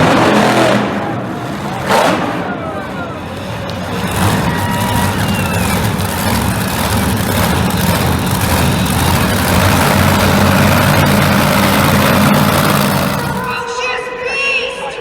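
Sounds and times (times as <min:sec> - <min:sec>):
truck engine running loud: 0:00.0 - 0:13.6.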